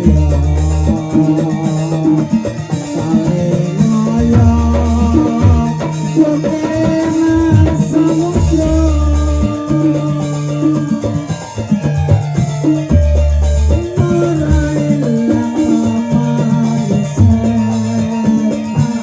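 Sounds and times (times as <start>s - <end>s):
bass line: 0.0s - 2.4s, 3.0s - 6.5s, 7.2s - 19.0s
drums: 0.0s - 19.0s
melody instruments: 0.0s - 19.0s.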